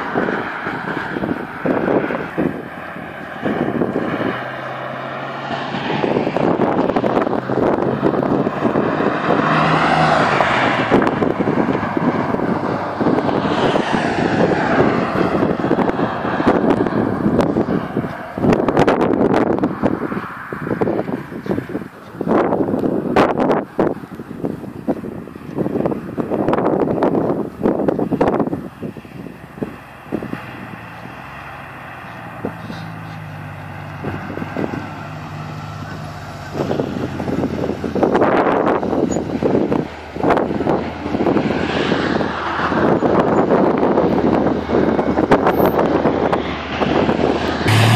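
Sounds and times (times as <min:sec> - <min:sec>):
car exhaust: 0:00.0 - 0:47.9
wind buffeting microphone: 0:00.0 - 0:47.9.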